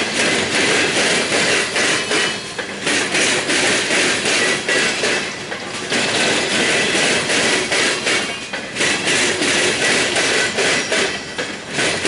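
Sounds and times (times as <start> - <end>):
rumble and rattle of freight cars: 0.0 - 12.0
train wheels clacking on track: 0.0 - 12.0.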